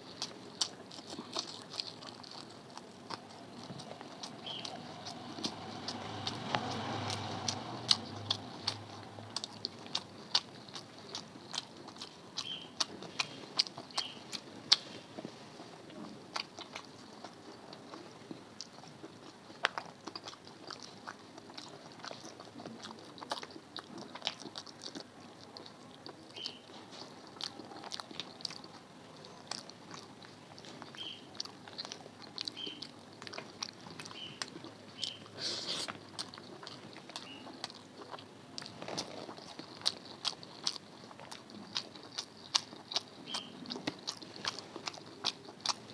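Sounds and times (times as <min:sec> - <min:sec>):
chewing with mouth smacks: 0:00.0 - 0:45.9.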